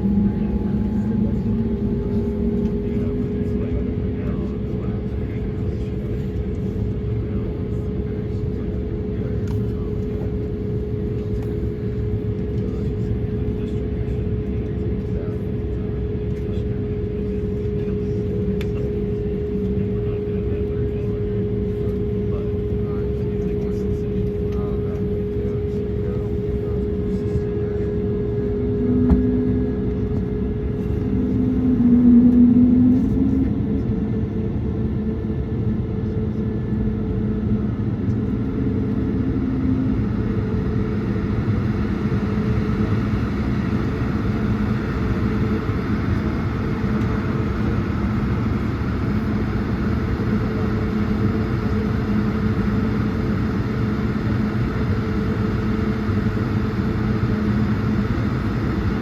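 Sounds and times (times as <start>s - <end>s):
jet cabin rumble: 0.0s - 59.0s.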